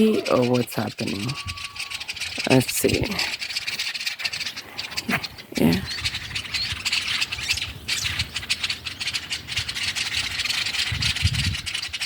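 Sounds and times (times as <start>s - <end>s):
small birds chattering: 0.0s - 12.0s.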